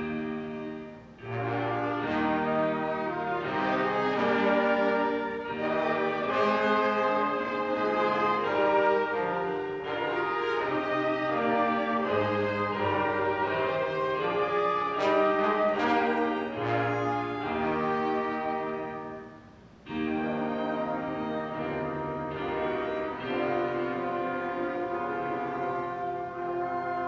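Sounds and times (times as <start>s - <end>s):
strings and brass orchestra: 0.0s - 27.0s.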